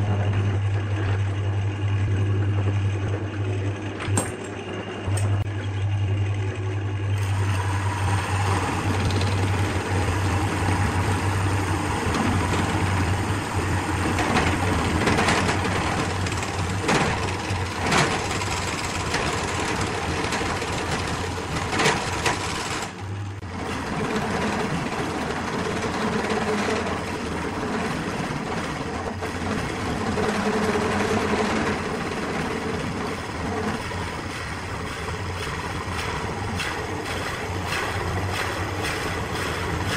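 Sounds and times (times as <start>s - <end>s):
wood lathe running: 7.2s - 23.0s, 23.6s - 39.9s.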